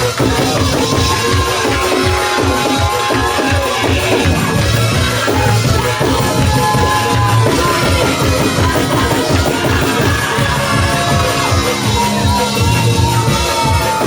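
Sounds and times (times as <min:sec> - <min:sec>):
drum kit fast beat: 0:00.0 - 0:14.0.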